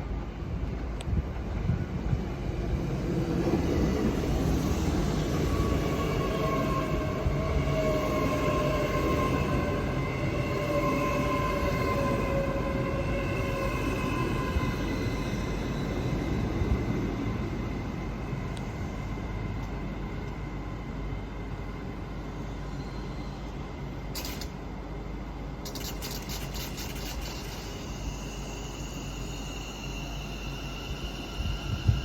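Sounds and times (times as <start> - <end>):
train rumble and whine: 0.0 - 32.0.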